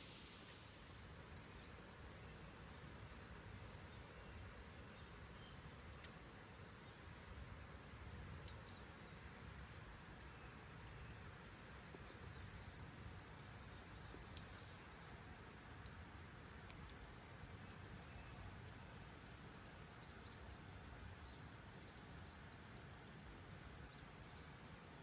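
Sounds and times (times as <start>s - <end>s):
faint clicks: 0.2s - 24.7s.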